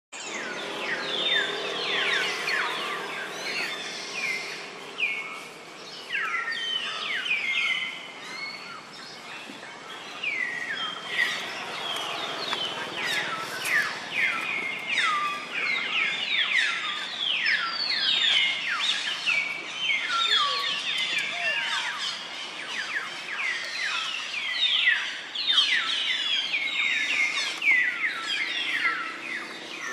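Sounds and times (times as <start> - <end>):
birds chirping: 0.2 - 29.9.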